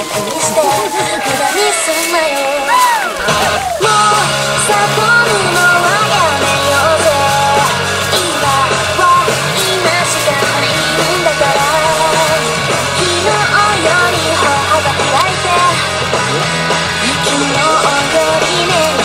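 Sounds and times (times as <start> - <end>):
song with lead vocal: 0.0 - 19.0
steady bass line: 0.0 - 19.0.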